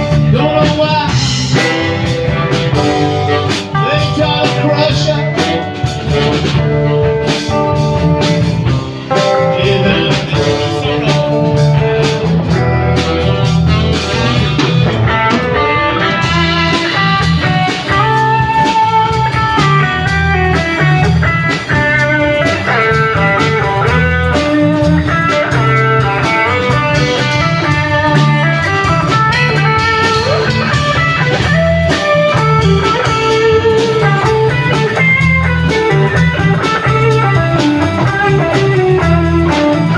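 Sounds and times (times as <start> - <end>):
bass: 0.0 - 39.9
drums: 0.0 - 39.9
guitars: 0.0 - 39.9.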